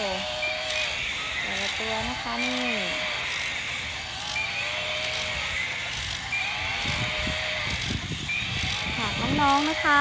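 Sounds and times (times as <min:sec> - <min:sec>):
electronic animal calls: 0:00.0 - 0:10.0
toy motors buzzing: 0:00.0 - 0:10.0.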